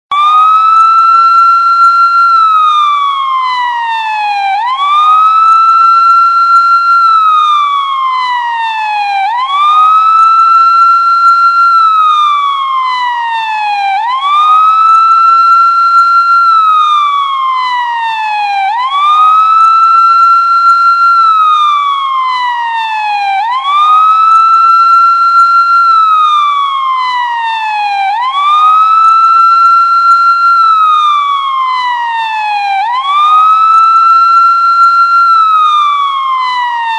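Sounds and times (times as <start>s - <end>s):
police siren wailing: 0.1s - 36.9s.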